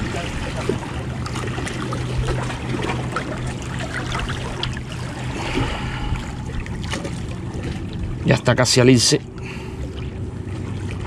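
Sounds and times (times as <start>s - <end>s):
shallow water sloshing and splashing: 0.0s - 11.0s
steady low hum: 0.0s - 11.0s.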